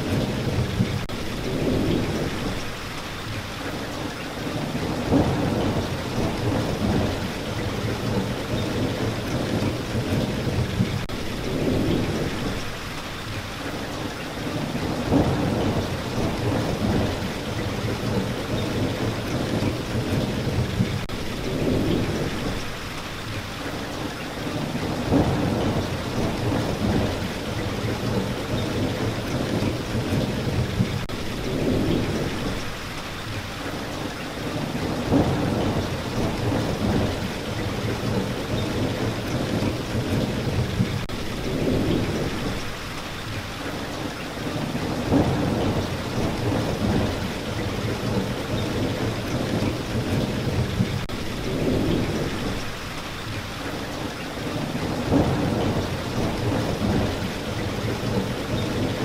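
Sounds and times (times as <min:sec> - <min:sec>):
rolling thunder rumbles: 0:00.0 - 0:02.9, 0:04.4 - 0:12.9, 0:14.0 - 0:23.0, 0:24.4 - 0:33.3, 0:33.9 - 0:43.3, 0:44.0 - 0:53.0, 0:54.0 - 0:59.0
steady rain: 0:00.0 - 0:59.0.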